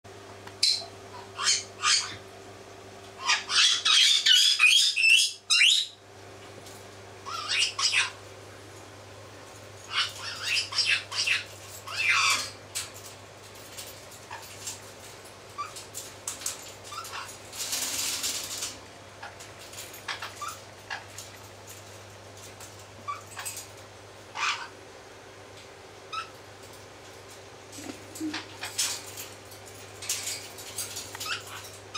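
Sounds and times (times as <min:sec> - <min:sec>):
steady low hum: 0:00.1 - 0:31.9.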